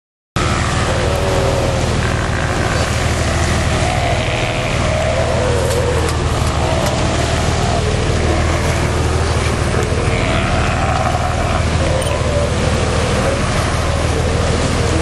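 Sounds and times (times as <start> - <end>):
boat engine humming: 0.4 - 15.0
water hissing: 0.4 - 15.0
wind: 0.4 - 15.0.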